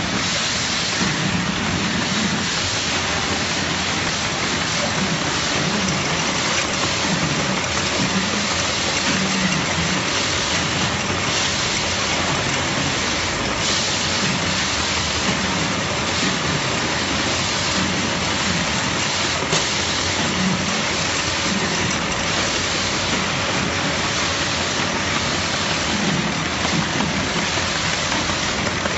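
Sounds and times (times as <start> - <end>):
factory machinery hissing: 0.0 - 28.9.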